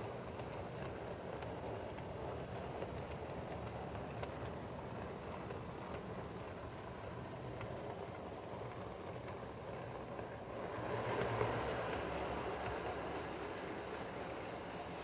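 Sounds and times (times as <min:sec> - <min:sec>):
train rumbling on track: 0:00.0 - 0:15.0
wheels clicking over rail joints: 0:00.0 - 0:15.0.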